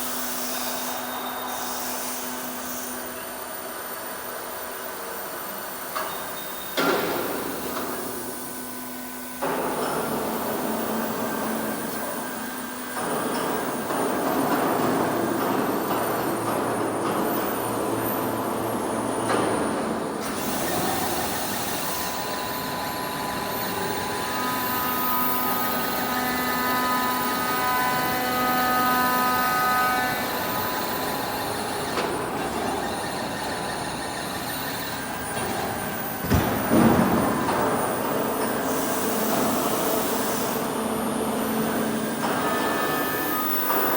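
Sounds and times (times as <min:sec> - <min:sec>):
machining centre running: 0:00.0 - 0:43.9
steady whining tones: 0:00.0 - 0:43.9.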